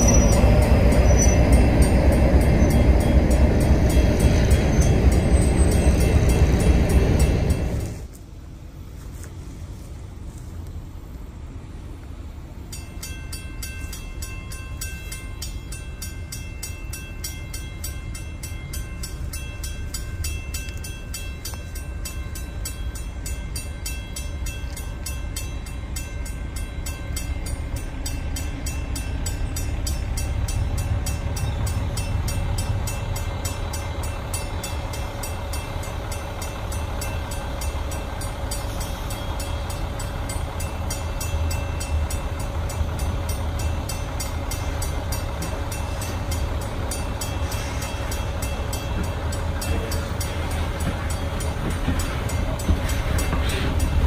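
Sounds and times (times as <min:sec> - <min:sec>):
crossing warning bell ringing: 0:00.0 - 0:08.1, 0:12.5 - 0:54.0
diesel locomotive rumble: 0:00.0 - 0:54.0.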